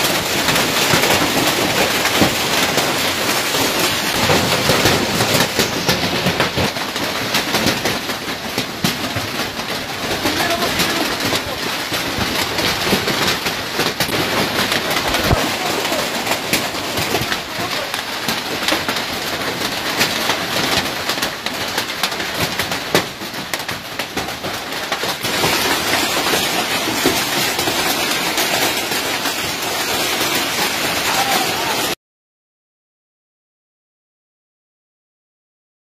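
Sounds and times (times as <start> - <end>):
hailstones pelting down: 0.0 - 32.0.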